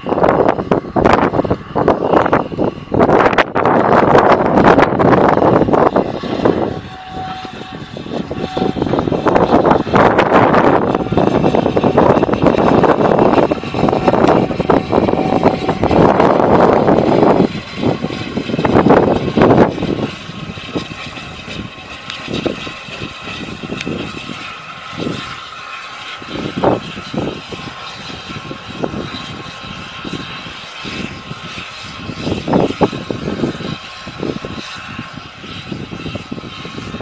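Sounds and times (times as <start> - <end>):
steam locomotive hissing: 3.8 - 37.0.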